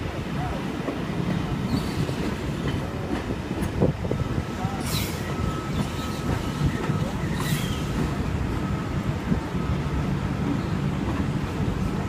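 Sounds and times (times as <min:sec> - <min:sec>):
train rumbling into platform: 0:00.0 - 0:12.0.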